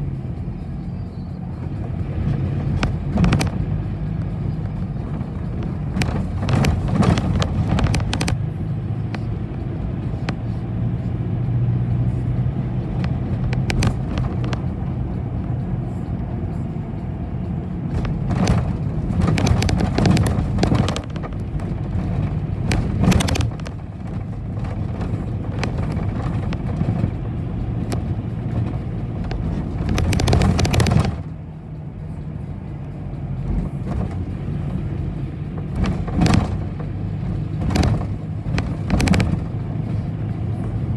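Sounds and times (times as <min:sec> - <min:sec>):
bus engine humming: 0:00.0 - 0:40.9
bus body rattling: 0:00.7 - 0:10.6, 0:12.8 - 0:14.9, 0:17.8 - 0:31.6, 0:33.3 - 0:40.9.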